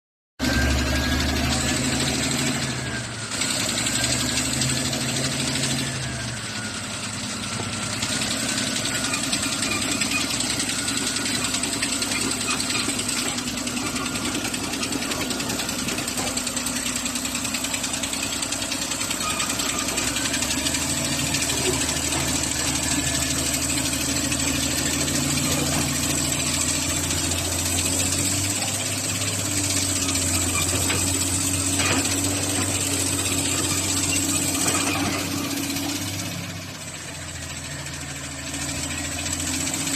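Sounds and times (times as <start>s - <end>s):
bulldozer diesel engine running: 0.4s - 39.9s.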